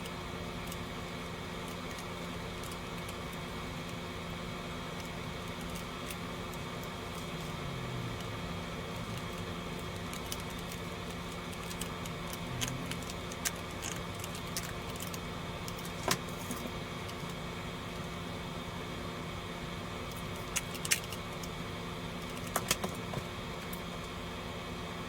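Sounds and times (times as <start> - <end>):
low hum and hiss: 0.0 - 25.0.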